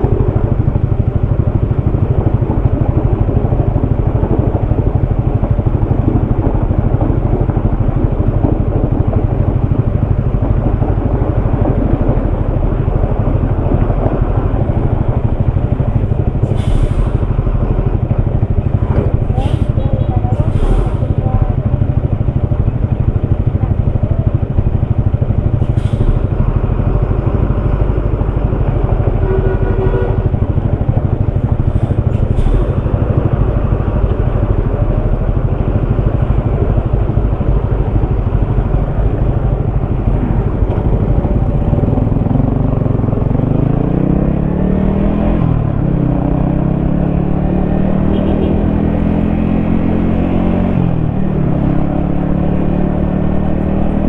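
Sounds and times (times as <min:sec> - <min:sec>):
heavy wind noise: 0:00.0 - 0:54.0
motorcycle engine cruising: 0:00.0 - 0:54.0.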